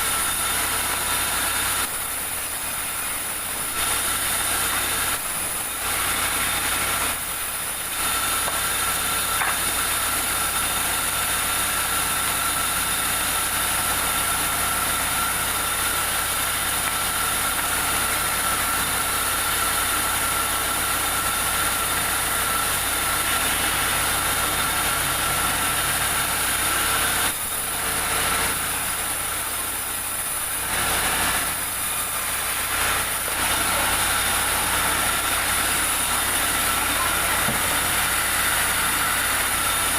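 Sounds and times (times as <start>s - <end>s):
sawmill saw droning: 0.0s - 39.9s.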